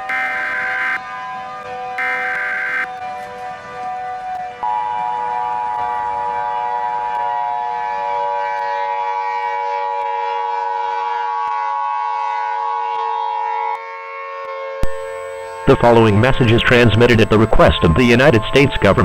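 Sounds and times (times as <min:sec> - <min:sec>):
siren sounding a steady chord: 0:00.0 - 0:19.0.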